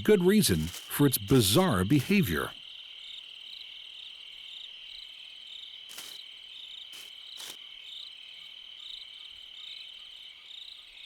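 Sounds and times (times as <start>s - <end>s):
crickets trilling: 0.0s - 10.8s.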